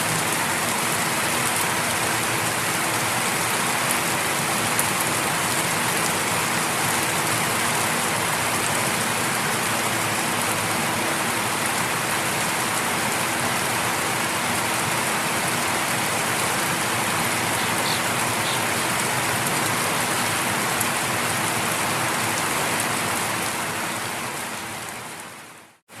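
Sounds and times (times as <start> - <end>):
light rain on leaves and concrete: 0.0 - 26.0.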